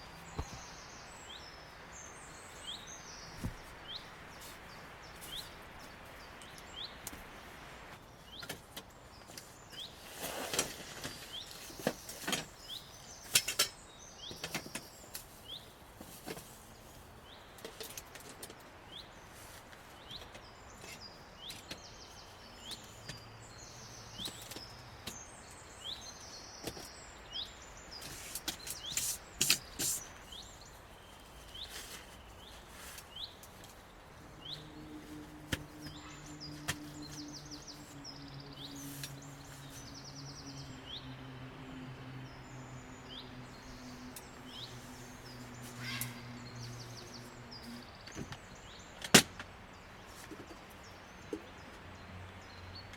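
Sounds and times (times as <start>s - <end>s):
birds chirping and trilling: 0.0s - 15.8s, 18.9s - 52.9s.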